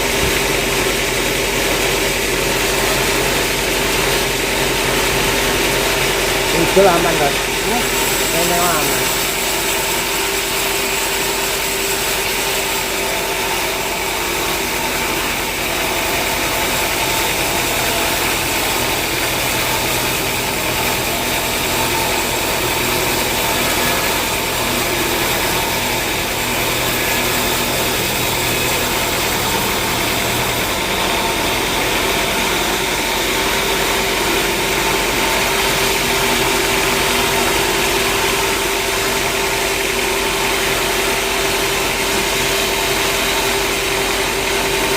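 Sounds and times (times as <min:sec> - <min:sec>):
engine humming steadily: 0:00.0 - 0:44.9.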